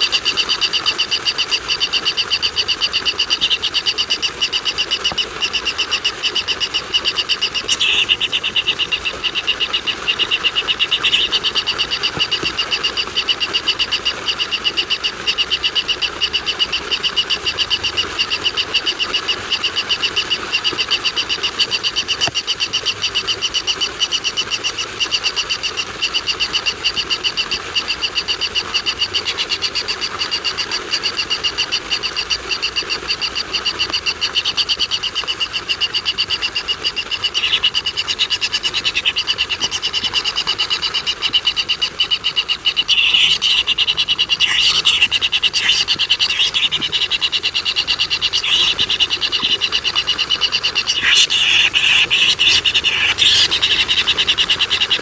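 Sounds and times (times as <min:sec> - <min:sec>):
rapid pulsing animal call: 0:00.0 - 0:55.0.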